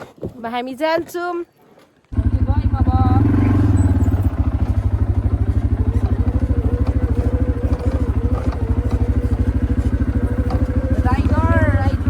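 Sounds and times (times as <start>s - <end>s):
quad bike engine puttering: 2.1s - 12.0s.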